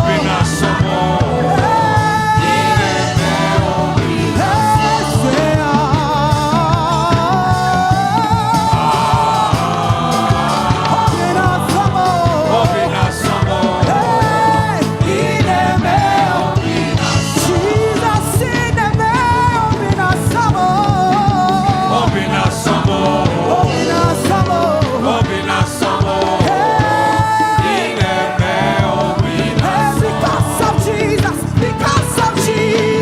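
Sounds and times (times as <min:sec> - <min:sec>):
drums playing a steady beat: 0:00.0 - 0:33.0
people singing: 0:00.0 - 0:33.0.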